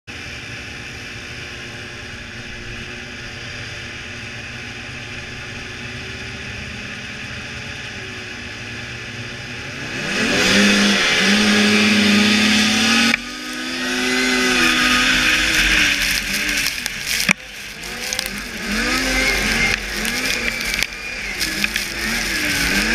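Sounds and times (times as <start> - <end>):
snowmobile engines idling: 0.1 - 22.9
snowmobiles accelerating at full throttle: 0.1 - 22.9.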